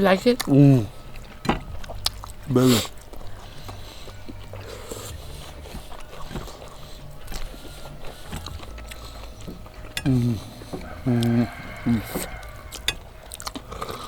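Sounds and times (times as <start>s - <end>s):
mouth and food noises: 0.0s - 14.0s
steady low rumble: 0.0s - 14.0s.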